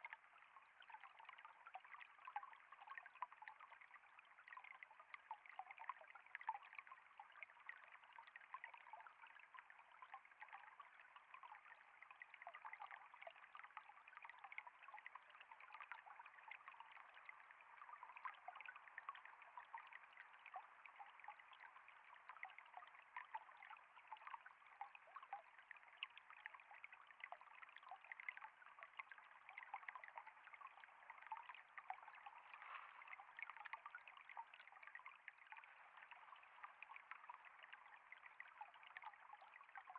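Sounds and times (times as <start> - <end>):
faint trickle of water: 0.0 - 39.9.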